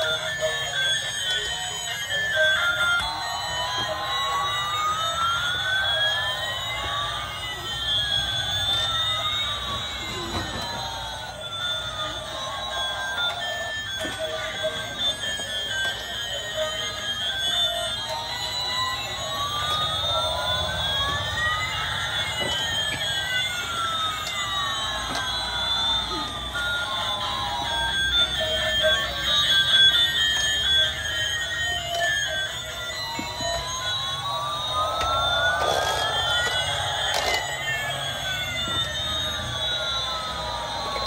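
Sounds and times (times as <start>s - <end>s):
electronic siren-like tones: 0.0s - 41.0s.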